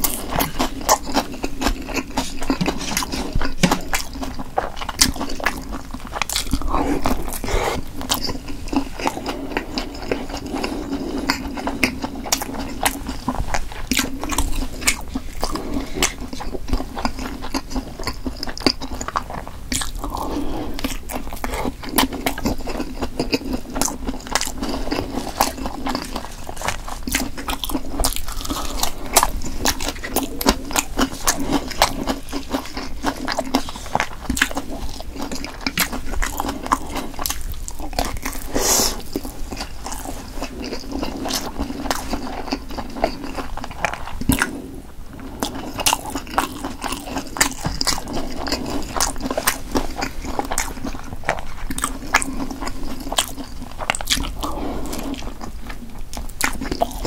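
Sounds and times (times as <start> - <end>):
biting and chewing: 0.0 - 57.0.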